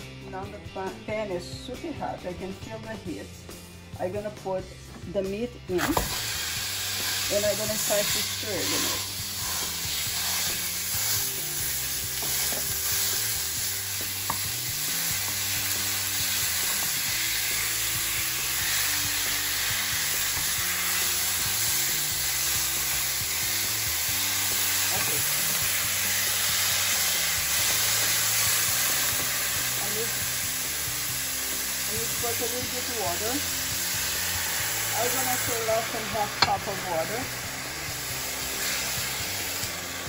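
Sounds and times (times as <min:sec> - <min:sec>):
low background music: 0:00.0 - 0:40.0
meat sizzling in a frying pan: 0:05.8 - 0:40.0.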